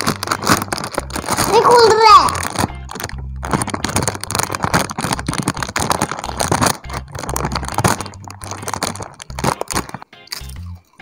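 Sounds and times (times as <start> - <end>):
plastic chip packet crinkling: 0.0 - 11.0.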